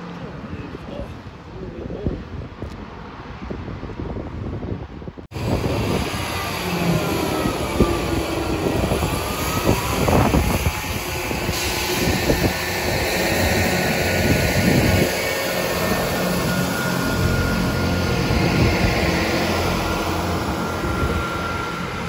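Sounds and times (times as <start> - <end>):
rail vehicle passing: 2.8 - 22.0.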